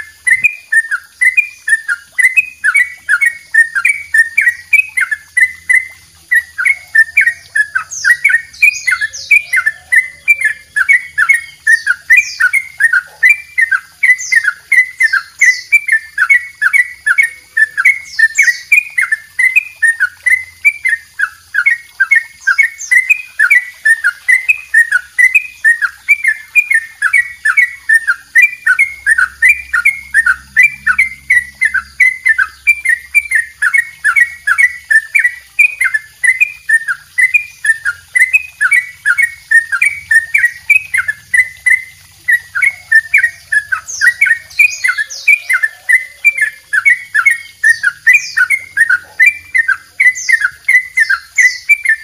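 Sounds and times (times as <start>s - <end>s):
bulbul singing repeated notes: 0.0s - 52.0s.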